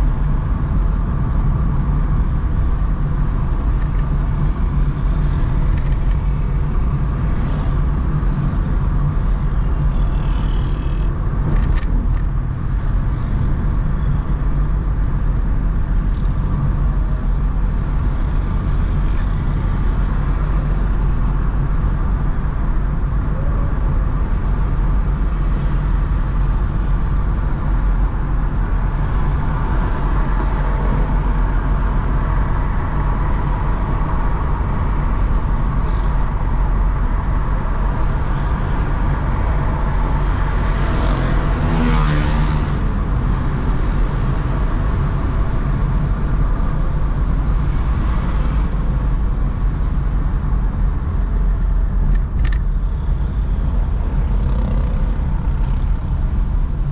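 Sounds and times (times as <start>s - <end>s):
car and road noise: 0.0s - 56.9s.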